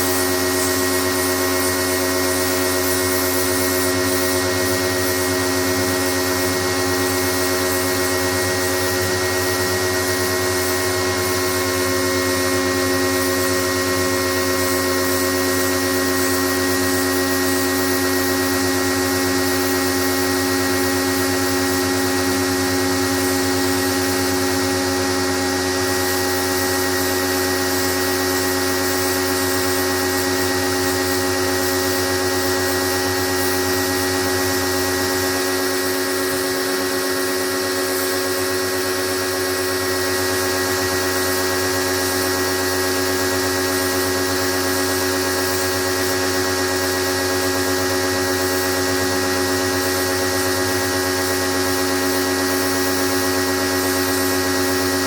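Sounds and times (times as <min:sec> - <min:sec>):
pressure washer motor whine: 0:00.0 - 0:55.0.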